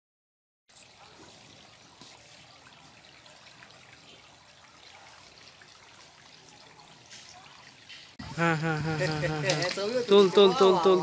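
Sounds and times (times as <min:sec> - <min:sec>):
water trickling at bank: 0:00.7 - 0:11.0.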